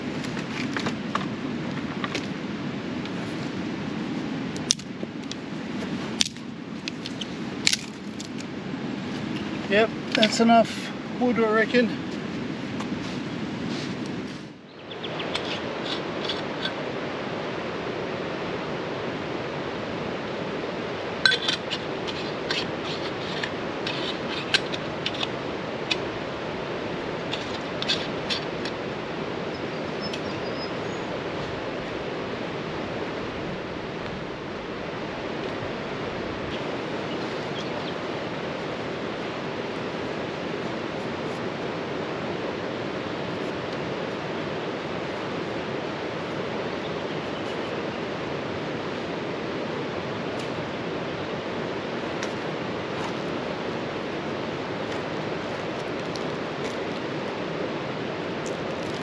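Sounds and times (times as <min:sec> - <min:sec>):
river rushing: 0:00.0 - 0:59.0.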